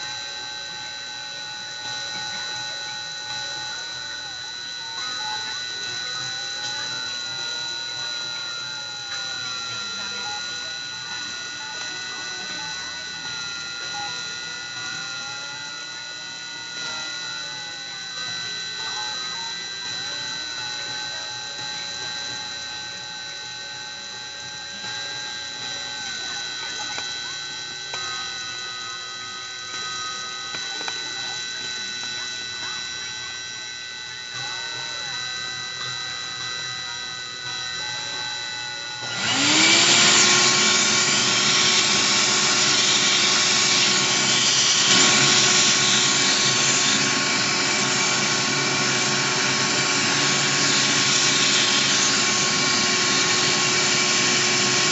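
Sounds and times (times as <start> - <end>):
rotary tool whining: 0.0 - 54.9
stepper motors humming: 0.0 - 54.9.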